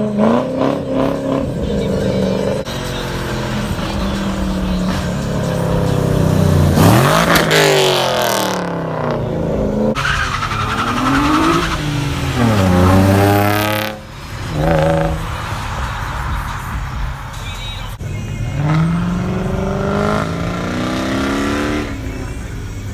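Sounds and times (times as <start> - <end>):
car engine idling: 0.0 - 22.9
car engine revving: 0.0 - 22.9.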